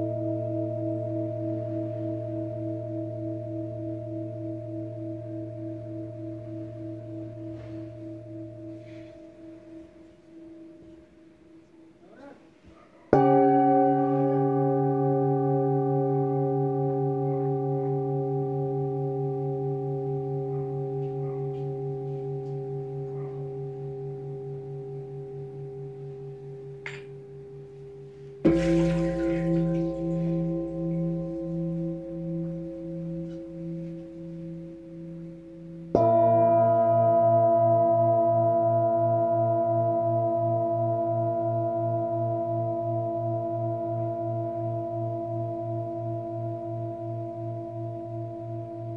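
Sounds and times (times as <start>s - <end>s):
singing bowl ringing: 0.0s - 12.1s, 13.1s - 48.9s.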